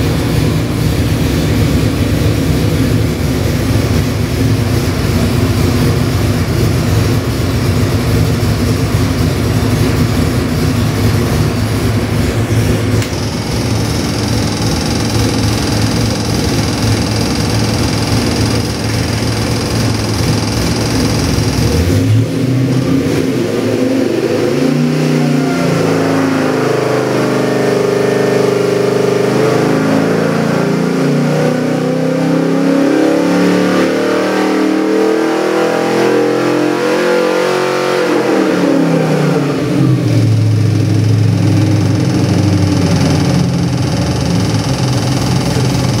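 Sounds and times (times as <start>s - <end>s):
engine revving then idling: 0.0s - 31.3s, 32.0s - 46.0s.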